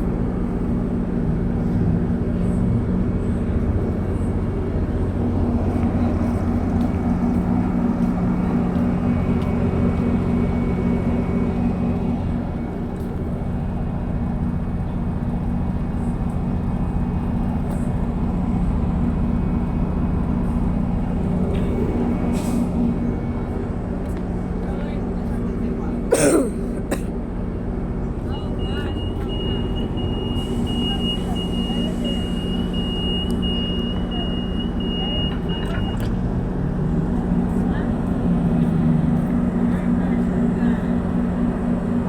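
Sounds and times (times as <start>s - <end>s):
diesel train low drone: 0.0s - 42.0s
train rumbling: 0.0s - 42.0s.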